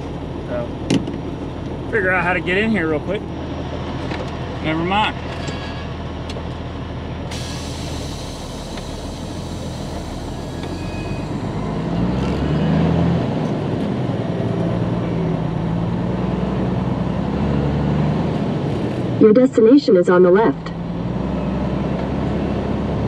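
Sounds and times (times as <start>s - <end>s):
truck diesel engine droning: 0.0s - 23.0s.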